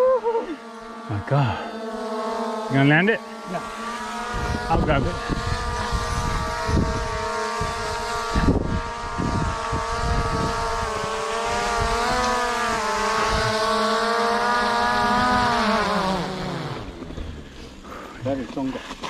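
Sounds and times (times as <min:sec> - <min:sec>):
bicycle freehub buzzing: 0:00.0 - 0:19.0
tyres rumbling on rough trail: 0:02.7 - 0:19.0.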